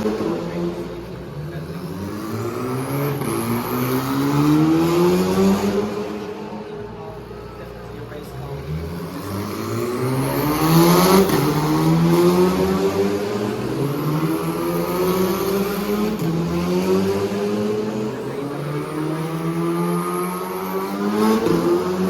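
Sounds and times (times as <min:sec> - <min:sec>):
race car engines accelerating: 0:00.0 - 0:22.0.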